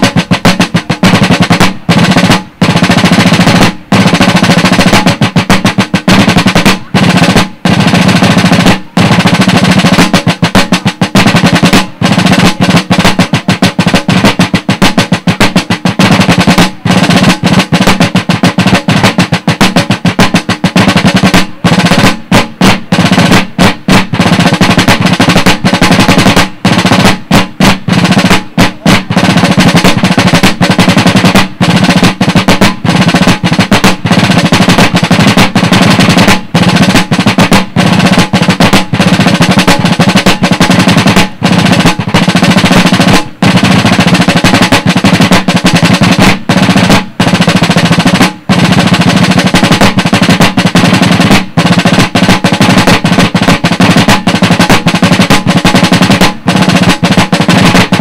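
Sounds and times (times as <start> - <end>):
snare drums rolling: 0.0 - 58.0.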